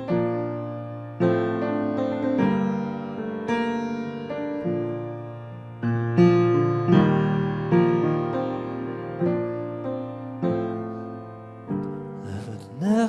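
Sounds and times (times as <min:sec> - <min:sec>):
piano playing slow chords: 0:00.0 - 0:13.0.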